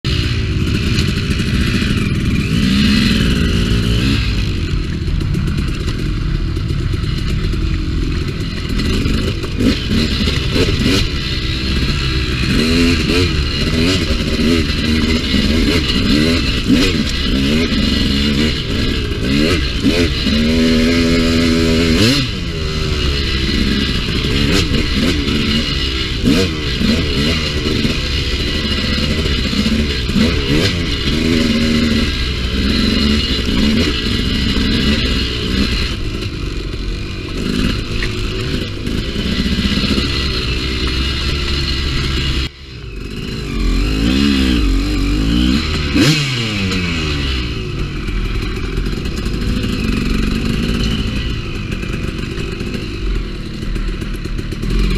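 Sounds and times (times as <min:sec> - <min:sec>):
dirt bike engine revving: 0:00.1 - 0:54.9.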